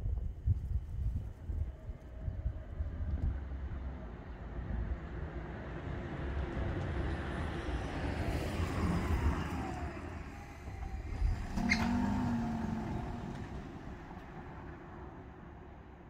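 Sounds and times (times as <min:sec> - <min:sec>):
car tyres and engine rumble: 0:00.0 - 0:16.0.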